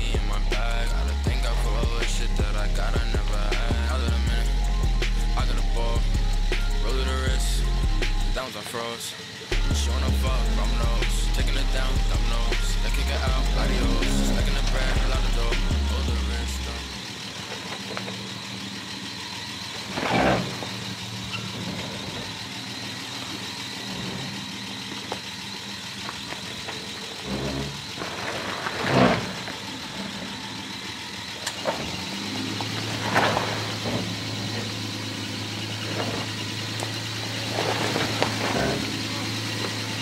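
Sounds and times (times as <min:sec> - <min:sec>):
off-road engine at low revs: 0:00.0 - 0:40.0.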